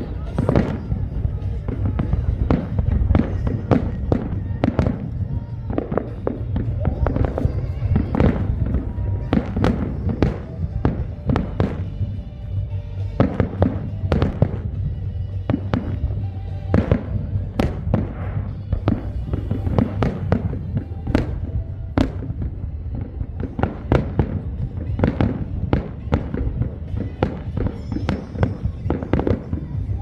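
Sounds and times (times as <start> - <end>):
fireworks bangs and cracks: 0.0 - 30.0
low rumble: 0.0 - 30.0.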